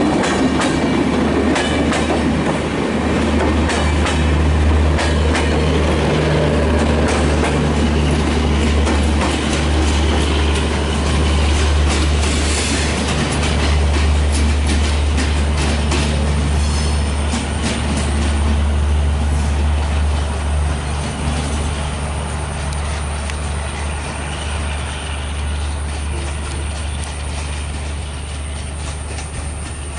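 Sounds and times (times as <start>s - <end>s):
train wheels clicking over rail joints: 0.0s - 29.9s.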